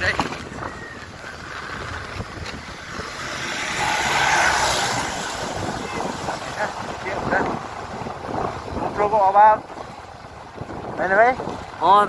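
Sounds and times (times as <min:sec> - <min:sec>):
vehicle on dirt road: 0:00.0 - 0:12.0
wind rushing over microphone: 0:00.0 - 0:12.0.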